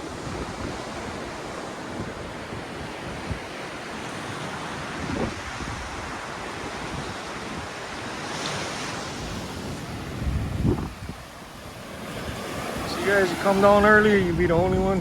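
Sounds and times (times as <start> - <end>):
small surf washing on beach: 0.0 - 15.0
wind buffeting microphone: 0.0 - 15.0.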